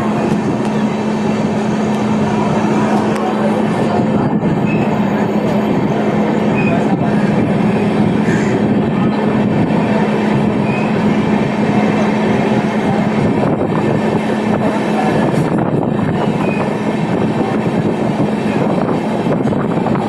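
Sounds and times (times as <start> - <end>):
train coaches rumbling: 0.0 - 20.0.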